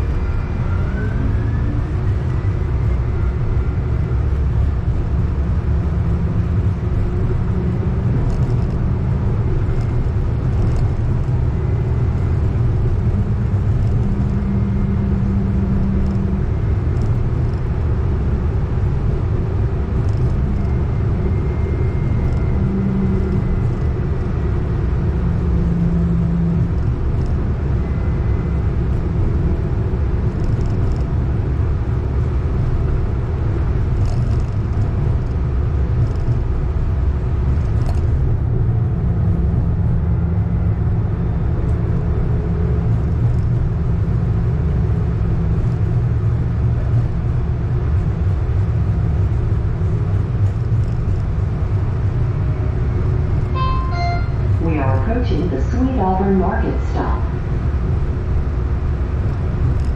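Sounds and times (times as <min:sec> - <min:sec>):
rumble of tram wheels: 0:00.0 - 0:59.9.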